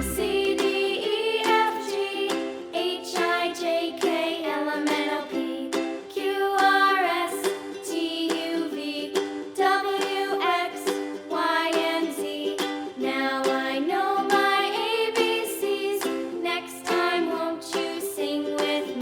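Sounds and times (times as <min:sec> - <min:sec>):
person singing children's song: 0:00.0 - 0:19.0
plucked ukulele chords: 0:00.0 - 0:19.0.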